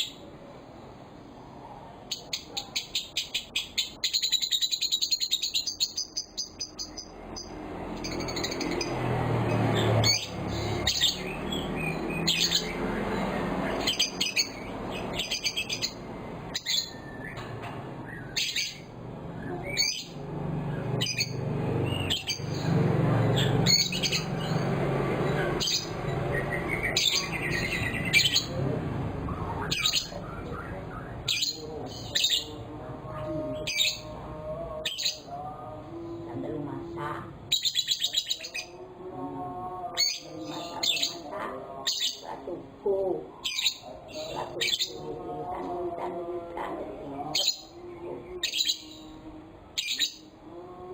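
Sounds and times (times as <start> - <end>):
lovebirds chirping and squawking: 0.0 - 0.2, 2.1 - 34.2, 34.8 - 35.4, 36.0 - 38.9, 39.9 - 45.7, 47.0 - 50.4
low background noise: 0.0 - 50.9.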